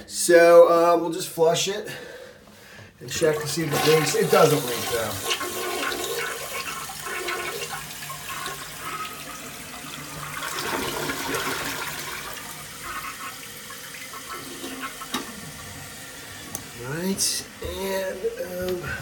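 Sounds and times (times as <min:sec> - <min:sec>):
toilet flushing: 0:03.0 - 0:19.0
toilet tank refilling: 0:03.1 - 0:19.0.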